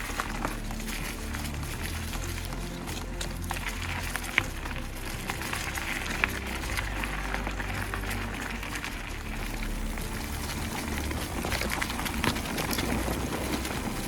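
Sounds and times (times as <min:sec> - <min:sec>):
bike clicks and rattles: 0:00.0 - 0:14.0
tyre and wind rumble: 0:00.0 - 0:14.0.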